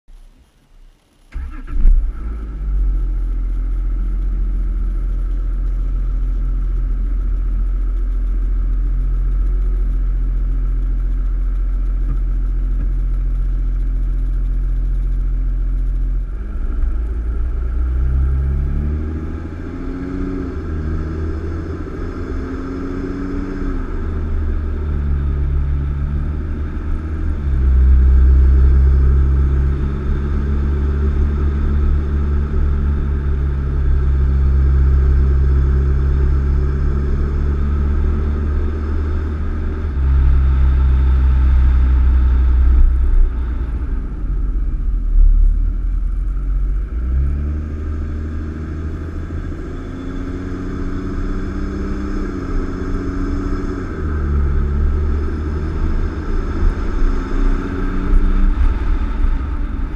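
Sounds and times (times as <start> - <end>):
car engine running: 0.1 - 59.9.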